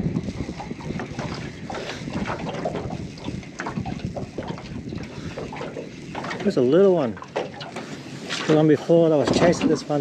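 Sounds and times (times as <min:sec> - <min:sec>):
water slapping against boat hull: 0:00.0 - 0:10.0
wind buffeting microphone: 0:00.0 - 0:10.0.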